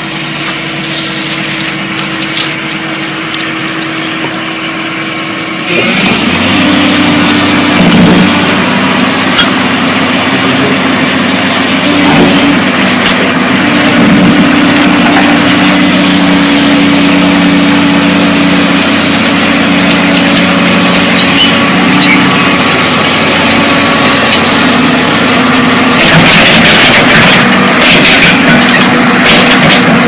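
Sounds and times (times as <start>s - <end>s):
excavator diesel engine: 0.0s - 30.0s.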